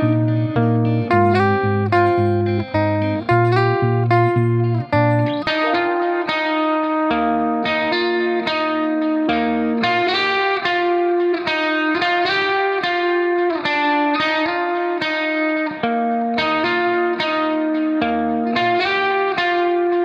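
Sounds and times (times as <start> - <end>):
strummed guitar chords: 0.0 - 20.0.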